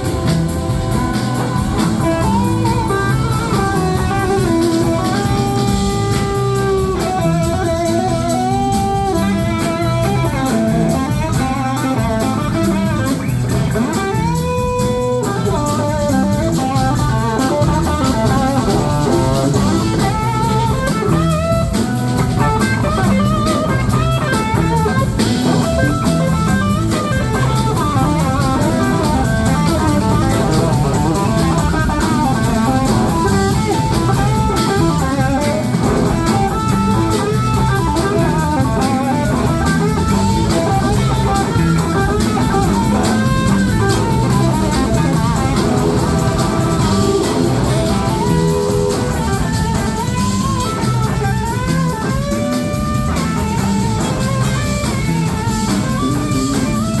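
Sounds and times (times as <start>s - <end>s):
blues-rock band playing: 0.0s - 57.0s
electric guitar lead: 0.0s - 57.0s.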